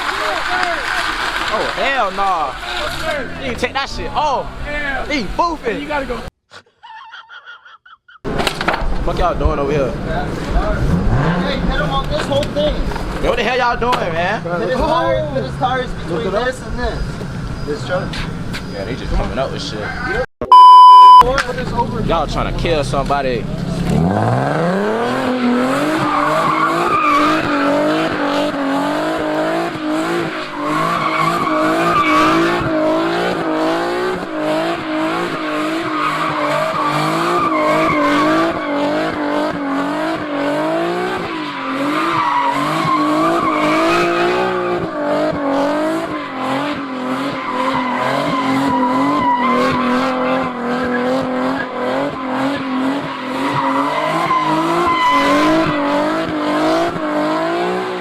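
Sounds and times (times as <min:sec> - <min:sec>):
car engine at high revs: 0:00.0 - 0:05.1, 0:08.4 - 0:19.6, 0:20.6 - 0:58.0
tires squealing and skidding: 0:00.0 - 0:06.2, 0:09.1 - 0:20.2, 0:21.3 - 0:58.0.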